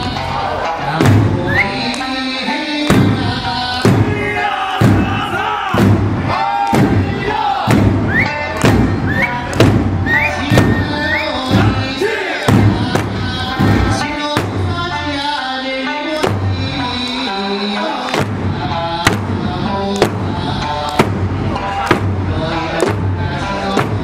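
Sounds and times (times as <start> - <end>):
large barrel drum: 0.0 - 2.0, 2.8 - 15.1, 16.2 - 17.1, 18.1 - 24.0
folk song singing: 0.0 - 24.0.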